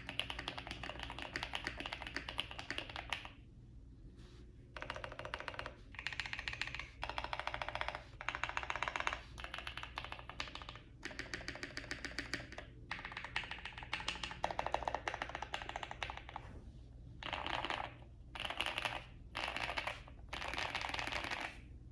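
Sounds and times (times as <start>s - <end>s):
fast typing on mechanical keyboard: 0.0s - 3.4s, 4.8s - 16.4s, 17.2s - 21.6s.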